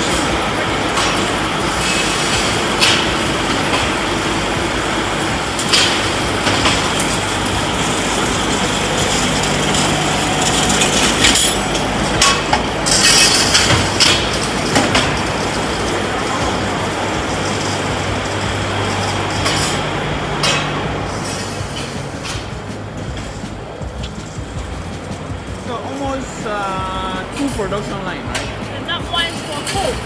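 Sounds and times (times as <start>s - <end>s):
machinery humming: 0.0s - 30.0s
sharp clicks and metallic clatter: 0.0s - 30.0s.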